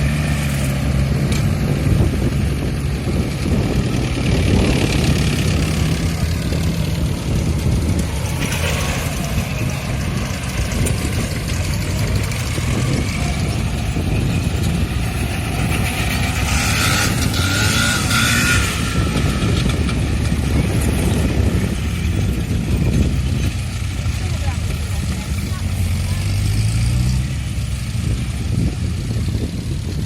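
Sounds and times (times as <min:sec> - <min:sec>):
tractor engines running: 0:00.0 - 0:30.0.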